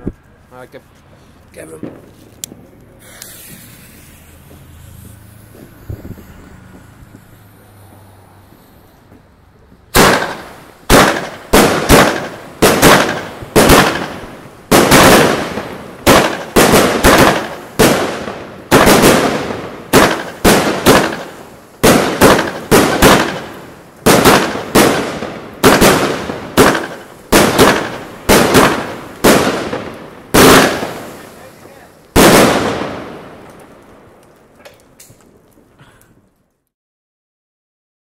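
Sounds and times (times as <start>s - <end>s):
fireworks bangs: 1.1s - 36.3s.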